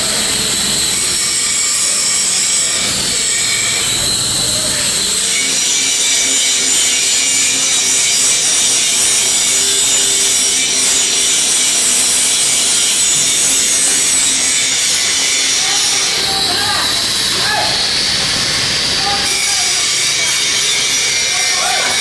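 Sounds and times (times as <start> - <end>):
loud steady hissing: 0.0 - 22.0.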